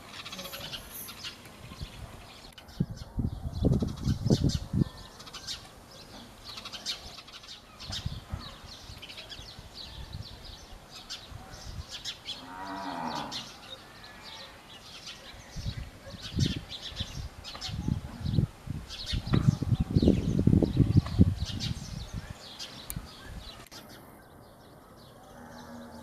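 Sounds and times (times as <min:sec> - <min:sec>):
sparrows chirping: 0:00.0 - 0:26.0.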